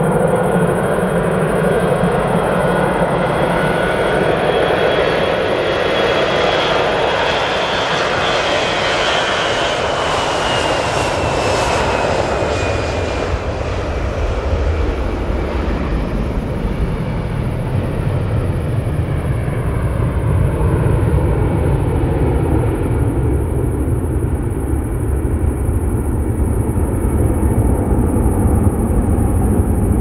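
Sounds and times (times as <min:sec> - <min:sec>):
jet engines taking off: 0:00.0 - 0:30.0.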